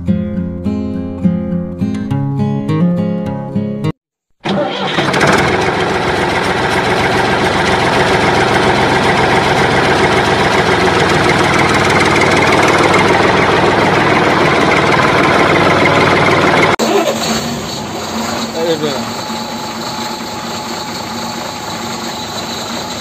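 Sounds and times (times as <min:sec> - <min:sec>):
engine idling: 0:04.5 - 0:23.0.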